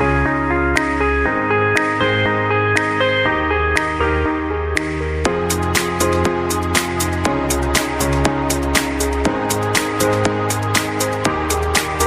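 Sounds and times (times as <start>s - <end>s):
electronic music with synth and beat: 0.0s - 12.0s.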